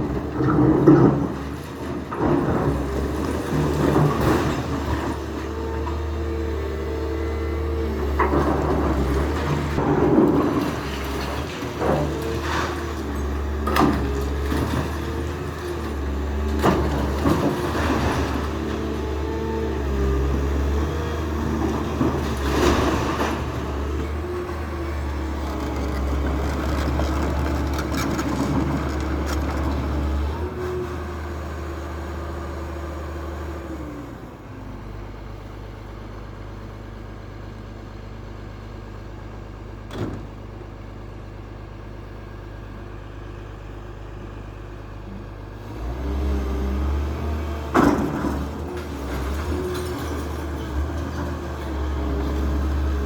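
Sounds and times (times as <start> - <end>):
demolition machine engine running: 0.0 - 53.0.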